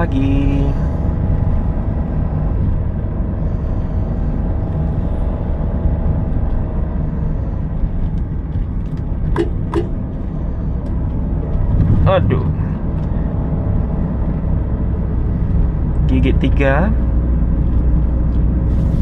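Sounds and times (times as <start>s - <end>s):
car engine pulling uphill: 0.0s - 19.0s
tyre and road rumble: 0.0s - 19.0s.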